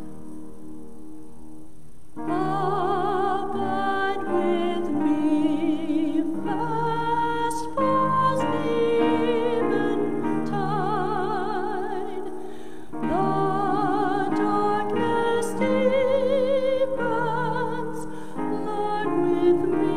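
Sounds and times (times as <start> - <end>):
sustained keyboard accompaniment: 0.0 - 19.9
person singing a hymn: 2.2 - 19.9.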